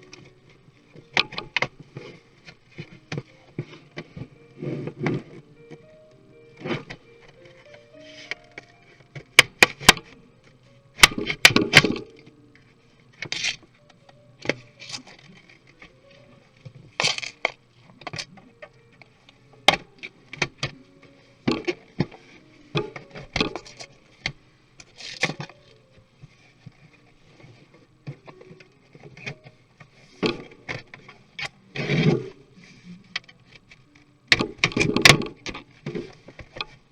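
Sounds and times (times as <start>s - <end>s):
plastic parts and tools clicking: 0.0s - 5.9s, 11.0s - 32.4s, 33.1s - 36.9s.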